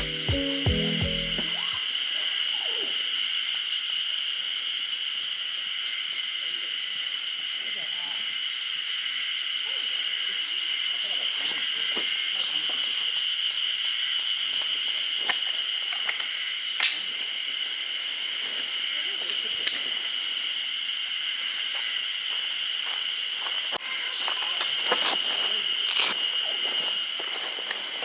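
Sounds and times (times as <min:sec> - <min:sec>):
insects chirring: 0:00.1 - 0:28.0.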